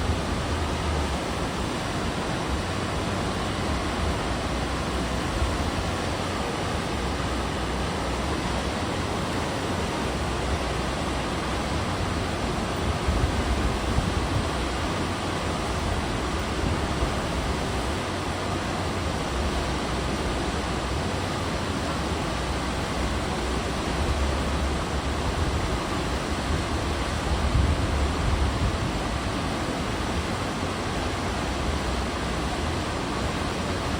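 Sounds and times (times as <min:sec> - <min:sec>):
sea water rushing past ship: 0:00.0 - 0:33.9.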